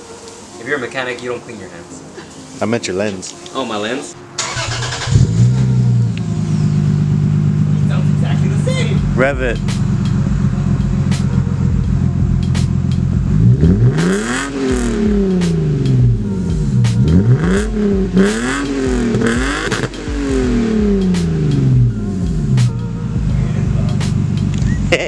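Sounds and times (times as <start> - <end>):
car engine idling and revving: 4.2 - 25.0.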